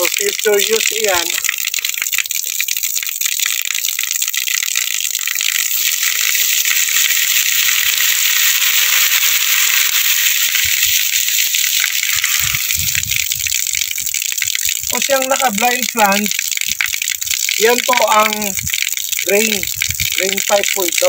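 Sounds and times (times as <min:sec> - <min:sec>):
water gushing from a valve: 0:00.0 - 0:21.0
water splashing on wet ground: 0:00.0 - 0:21.0.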